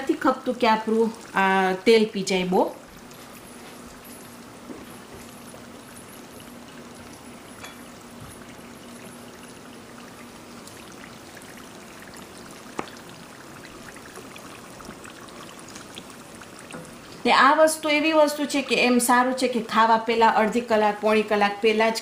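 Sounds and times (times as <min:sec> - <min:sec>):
food sizzling in hot oil: 0:00.0 - 0:21.1.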